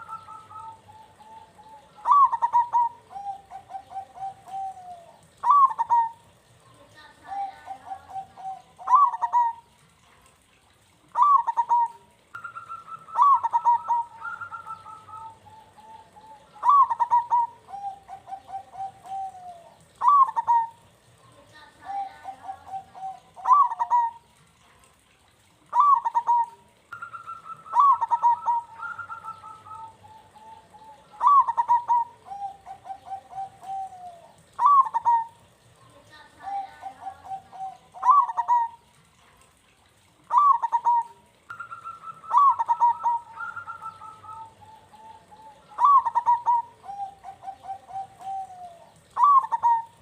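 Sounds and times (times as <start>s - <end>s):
dove cooing: 0.0s - 24.4s, 25.7s - 39.4s, 40.2s - 50.0s.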